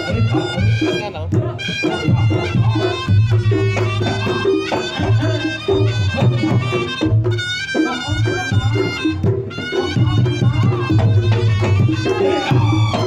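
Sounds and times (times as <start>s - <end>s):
drums beating steady rhythm: 0.0s - 13.0s
shawm playing high melody: 0.0s - 13.0s.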